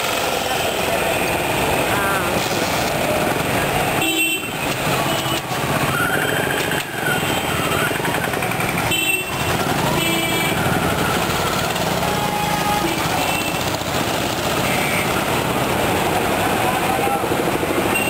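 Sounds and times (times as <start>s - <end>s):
motorcycle and scooter engines: 0.0s - 18.0s.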